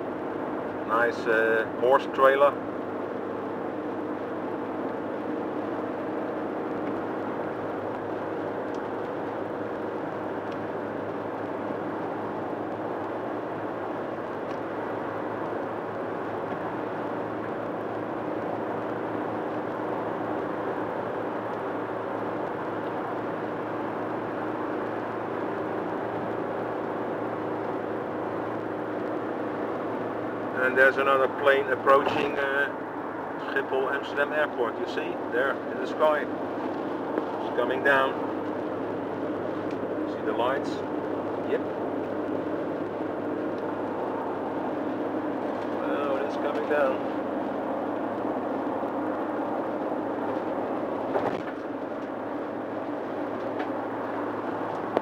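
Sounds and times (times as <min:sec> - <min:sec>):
low engine hum: 0:00.0 - 0:55.0
tyres and wind rushing: 0:00.0 - 0:55.0.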